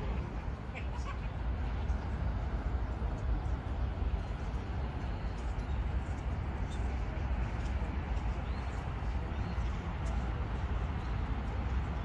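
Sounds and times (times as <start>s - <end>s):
continuous low rumble: 0.0s - 12.0s.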